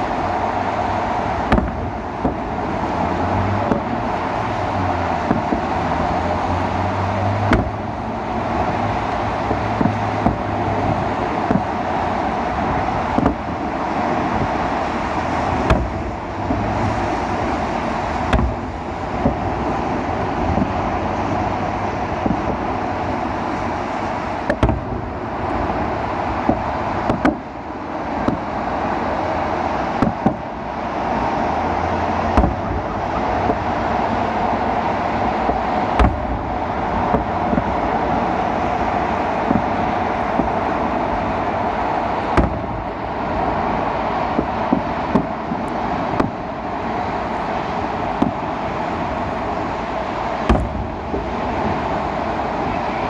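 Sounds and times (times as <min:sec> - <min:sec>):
steady rushing noise: 0:00.0 - 0:53.0
fireworks bangs: 0:08.6 - 0:30.9, 0:32.1 - 0:49.7, 0:50.3 - 0:53.0.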